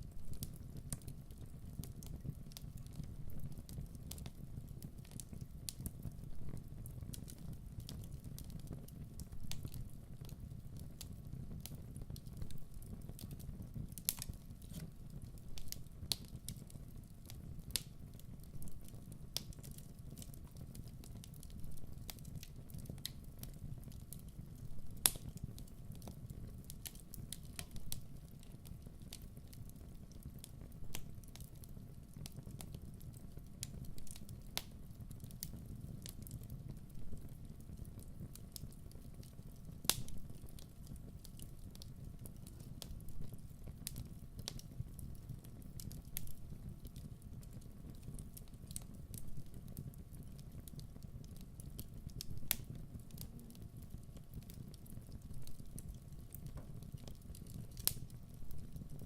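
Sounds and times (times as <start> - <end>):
low rumble of fire: 0.0 - 59.0
wood fire crackling: 0.0 - 59.0.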